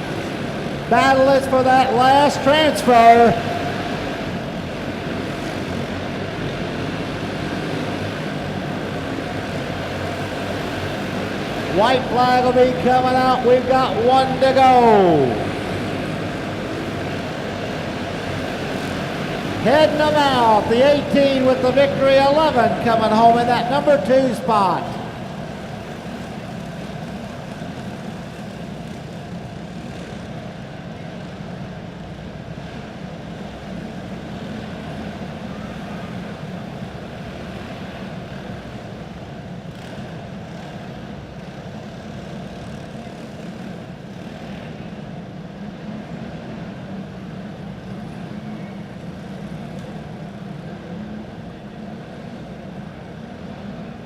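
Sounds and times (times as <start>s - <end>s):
racing kart engines running hard: 0.0s - 54.0s.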